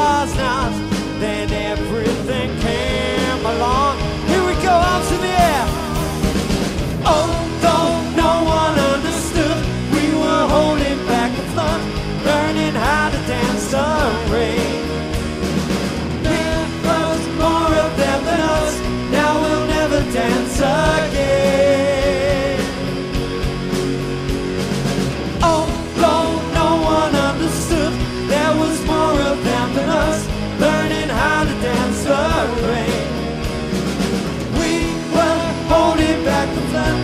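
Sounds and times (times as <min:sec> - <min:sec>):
man singing: 0:00.0 - 0:15.1, 0:16.2 - 0:23.2, 0:25.4 - 0:33.4, 0:34.5 - 0:37.0
bass guitar: 0:00.0 - 0:37.0
drums: 0:00.0 - 0:37.0
electric guitars: 0:00.0 - 0:37.0.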